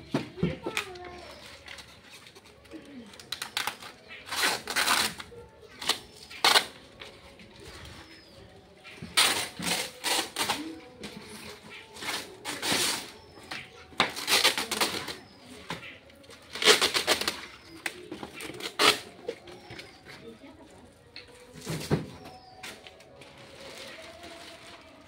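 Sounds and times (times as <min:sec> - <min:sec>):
rustling: 0:01.2 - 0:25.0.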